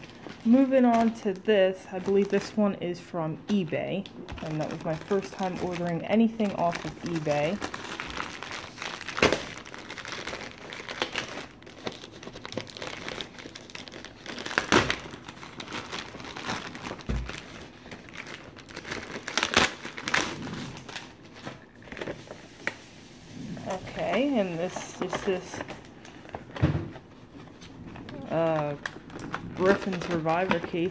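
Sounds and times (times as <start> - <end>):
sharp crackles of plastic: 0.0 - 2.6, 3.6 - 30.9
plastic mailer bag crinkling: 0.0 - 2.7, 3.6 - 30.9.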